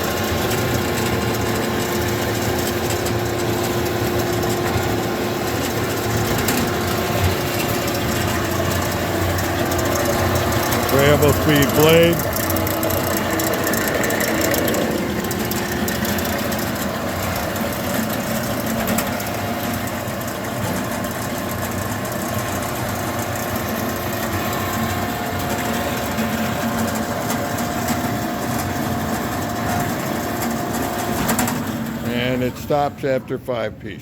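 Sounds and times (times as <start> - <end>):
bandsaw running: 0.0 - 32.9.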